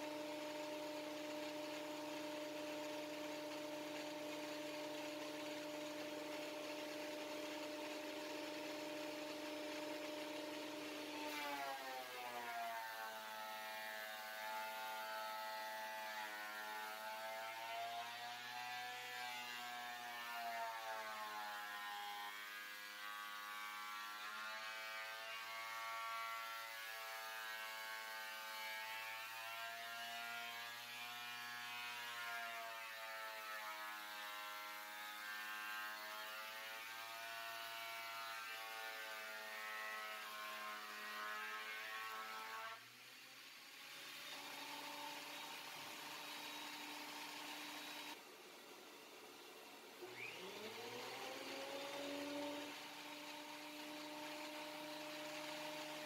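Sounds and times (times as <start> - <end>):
thickness planer motor whine: 0.0 - 56.0.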